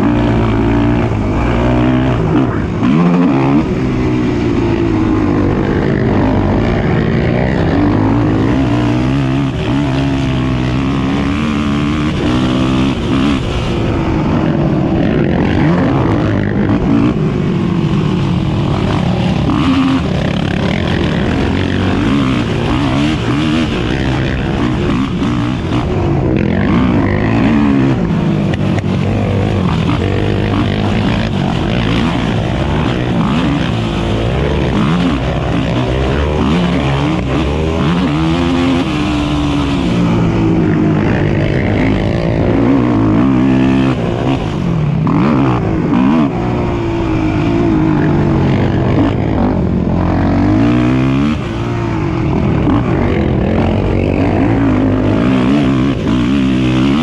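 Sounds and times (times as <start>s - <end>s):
racing atv engines revving: 0.0s - 57.0s.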